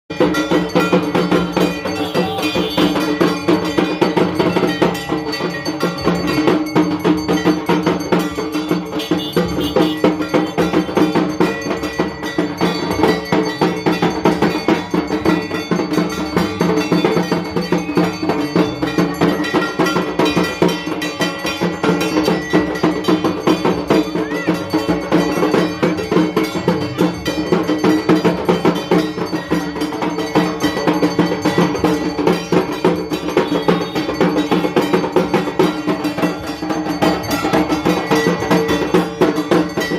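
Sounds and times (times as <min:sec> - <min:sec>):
fast drumming: 0:00.1 - 0:39.9
metallic ringing: 0:00.1 - 0:39.9.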